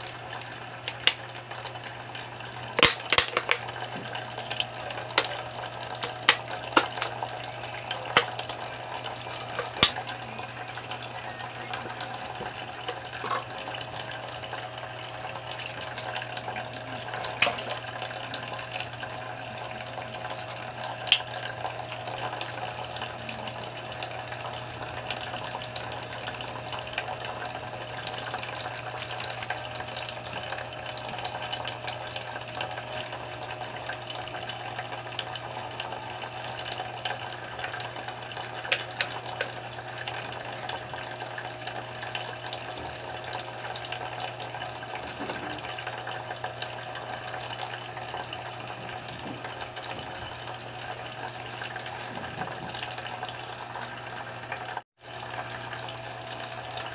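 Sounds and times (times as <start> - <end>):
pump motor hum: 0.0 - 56.9
water trickling and splashing: 0.0 - 56.9.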